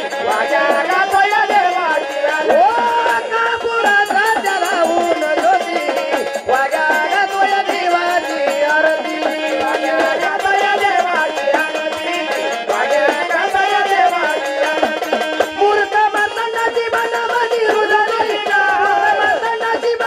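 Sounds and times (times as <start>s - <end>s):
devotional folk melody: 0.0s - 20.0s
percussion beat: 0.0s - 20.0s.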